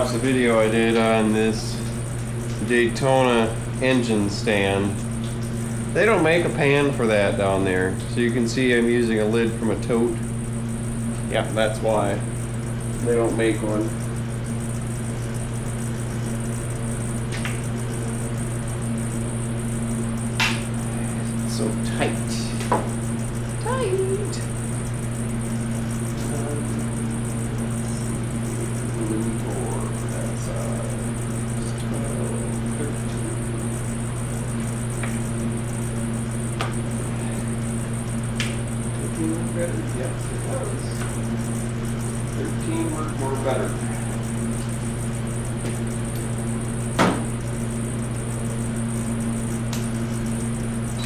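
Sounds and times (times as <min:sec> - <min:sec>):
high whine: 0:00.0 - 0:51.0
low machine hum: 0:00.0 - 0:51.0.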